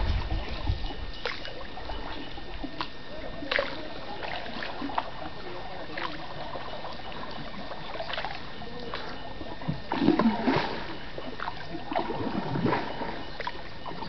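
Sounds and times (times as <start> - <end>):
paddles splashing in water: 0.0 - 14.0
water washing: 0.0 - 14.0.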